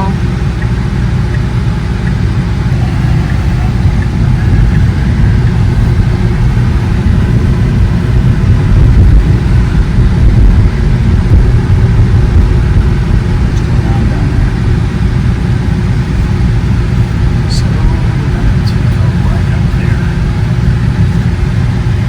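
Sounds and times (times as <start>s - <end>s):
road and tyre noise rumble: 0.0s - 22.0s.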